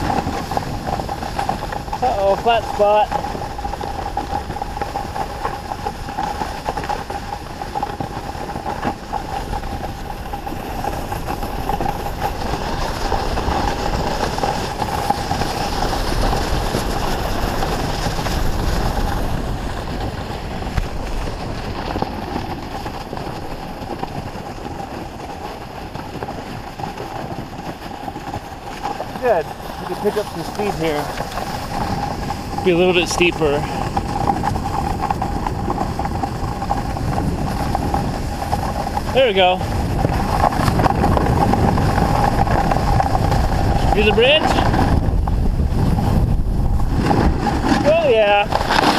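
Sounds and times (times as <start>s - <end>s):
snowboard sliding over snow: 0.0s - 48.9s.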